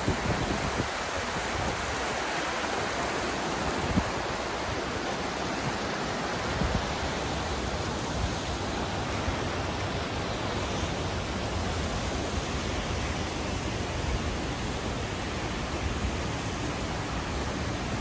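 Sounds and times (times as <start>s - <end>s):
river water roaring: 0.0s - 18.0s.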